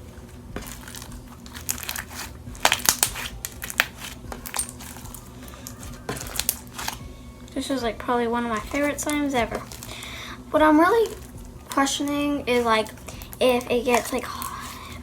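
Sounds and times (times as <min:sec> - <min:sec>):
crunching crackling clicks of beads: 0:00.0 - 0:07.6, 0:08.5 - 0:15.0
slime being squished and kneaded: 0:00.0 - 0:15.0.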